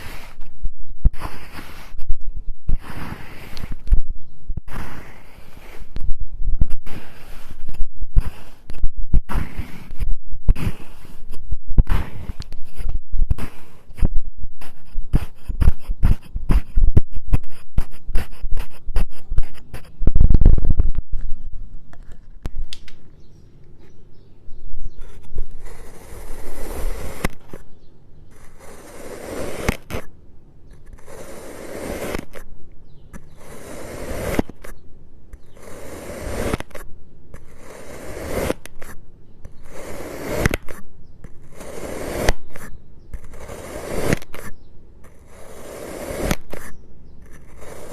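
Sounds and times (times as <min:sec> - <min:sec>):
sand being cut and scraped: 0:00.0 - 0:21.2, 0:24.9 - 0:47.9.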